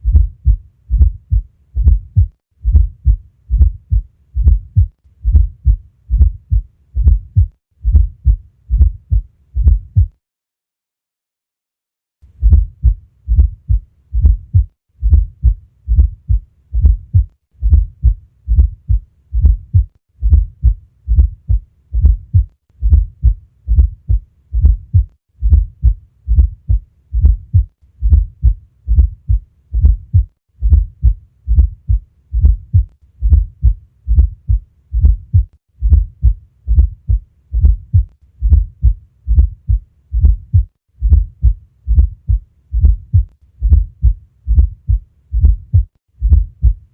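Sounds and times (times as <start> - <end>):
heartbeat through stethoscope: 0.0 - 10.2, 12.4 - 46.9.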